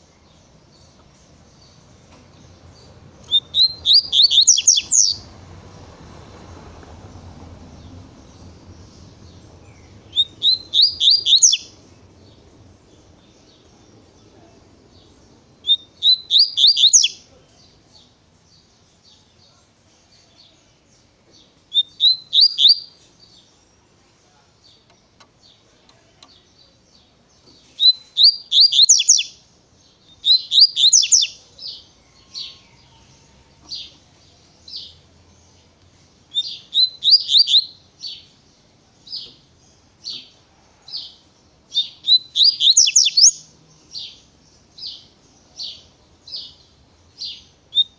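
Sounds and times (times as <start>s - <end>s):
songbird singing rapid high notes: 0.0s - 5.8s, 7.7s - 19.4s, 21.5s - 25.7s, 26.3s - 32.0s, 33.8s - 40.0s, 41.7s - 47.9s.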